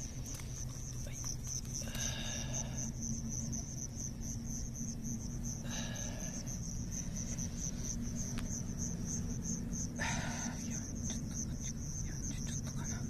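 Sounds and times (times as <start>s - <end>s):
crickets chirping: 0.0s - 13.0s
steady low hum: 0.0s - 13.0s.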